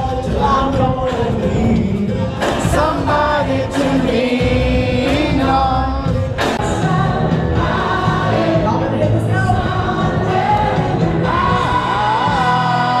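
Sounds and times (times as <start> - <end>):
pop music with singing: 0.0 - 13.0.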